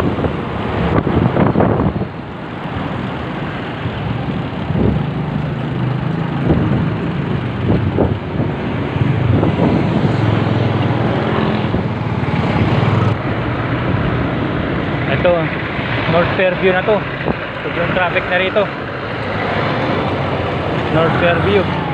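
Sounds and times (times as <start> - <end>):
wind noise: 0.0 - 21.9
motorcycle engine running: 3.0 - 21.9.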